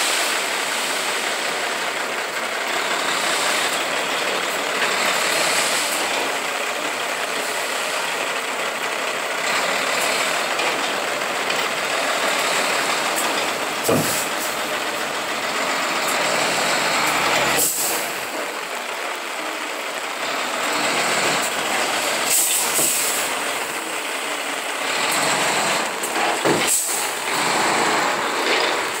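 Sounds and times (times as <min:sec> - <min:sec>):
dump truck running: 0:00.0 - 0:29.0.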